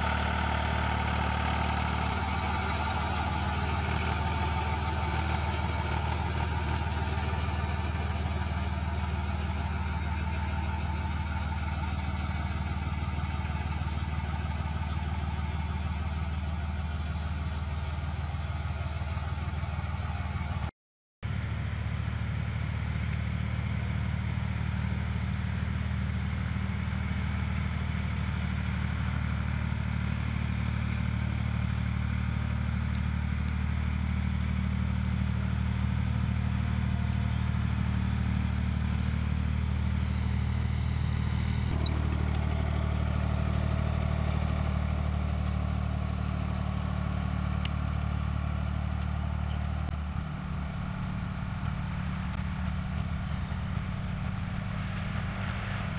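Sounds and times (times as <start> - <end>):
tractor engine running: 0.0 - 20.7, 21.3 - 55.9.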